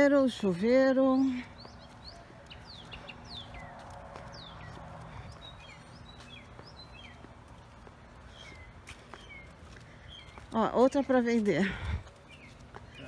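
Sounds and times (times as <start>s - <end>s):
faint steady background noise: 0.0s - 13.0s
small birds chirping: 0.0s - 13.0s.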